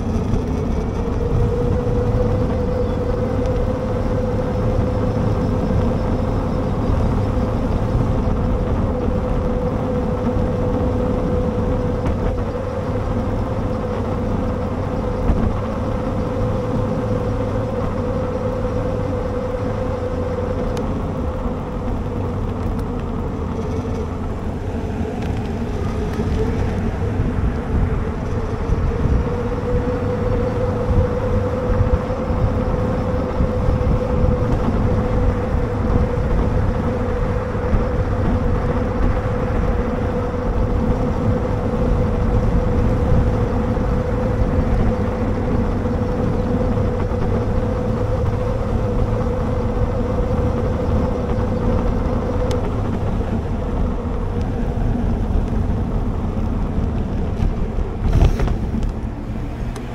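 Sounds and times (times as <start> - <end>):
electric hub motor whine: 0.0 - 59.9
wind rumble on microphone: 0.0 - 59.9.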